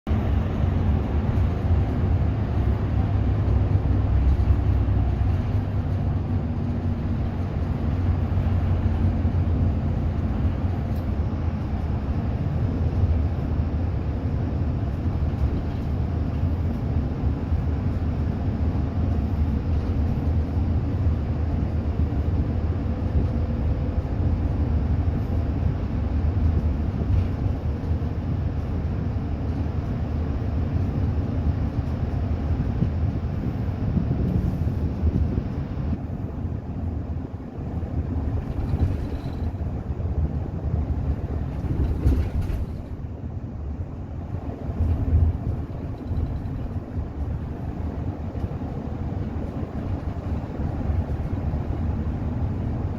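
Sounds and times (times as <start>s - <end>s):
bus engine and road noise: 0.0s - 52.9s.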